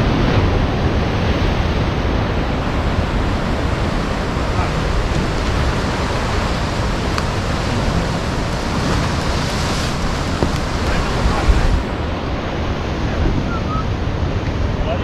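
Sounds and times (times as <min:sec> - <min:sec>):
sea surf on rocky shore: 0:00.0 - 0:15.0
wind rumbling on microphone: 0:00.0 - 0:15.0.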